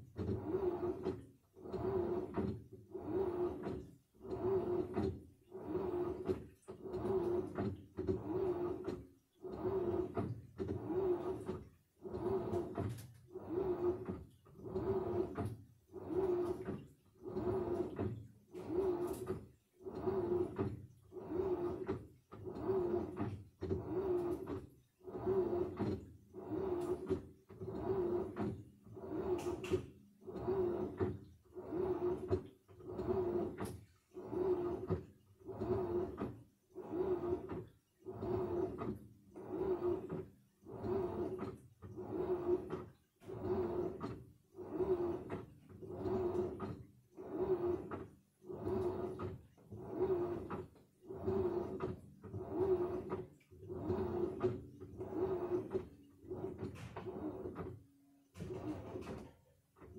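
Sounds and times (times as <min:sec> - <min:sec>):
washing machine motor hum: 0:00.0 - 0:59.9
water sloshing through laundry: 0:00.0 - 0:59.9.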